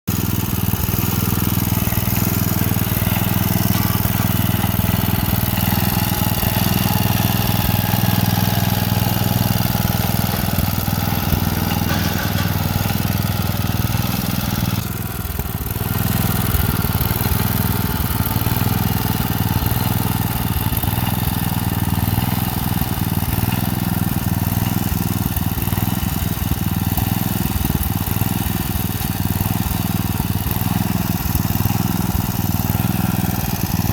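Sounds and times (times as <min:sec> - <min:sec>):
riding mower engine running: 0:00.0 - 0:33.9.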